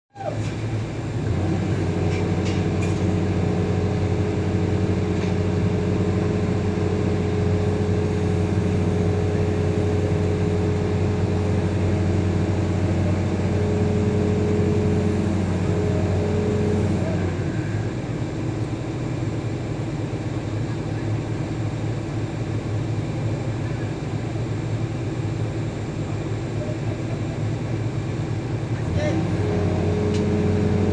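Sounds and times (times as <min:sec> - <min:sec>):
diesel engine droning: 0:00.1 - 0:30.9.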